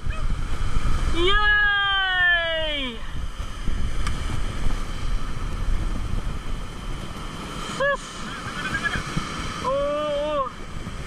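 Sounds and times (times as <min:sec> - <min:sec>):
wind buffeting microphone: 0:00.0 - 0:11.0
surf breaking against rocks: 0:00.2 - 0:11.0.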